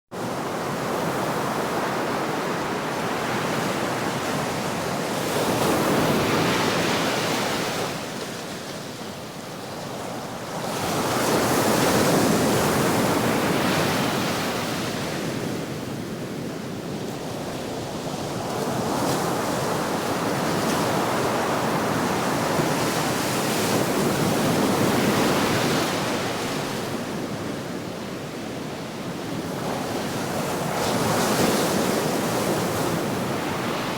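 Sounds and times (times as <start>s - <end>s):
ocean waves washing on shore: 0.2s - 33.9s.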